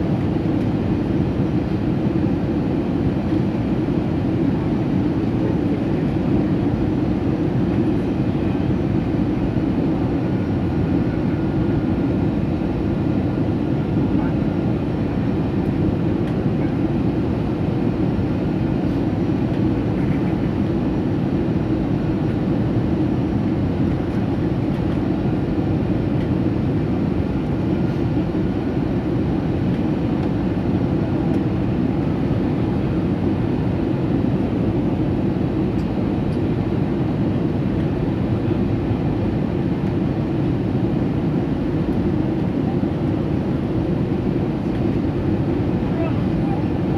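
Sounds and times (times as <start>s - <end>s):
airliner low rumble: 0.0s - 46.9s.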